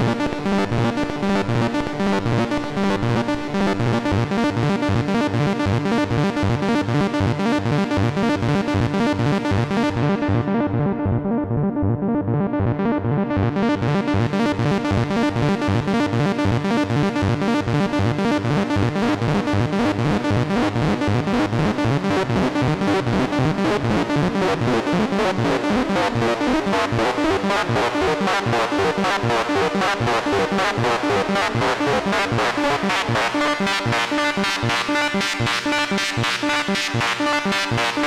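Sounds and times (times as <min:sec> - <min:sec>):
synthesizer fast arpeggio: 0:00.0 - 0:38.0.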